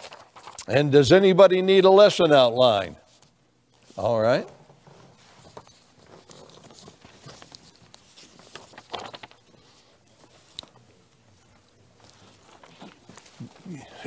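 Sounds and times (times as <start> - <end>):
paper rustling: 0.0 - 0.8, 3.1 - 13.6.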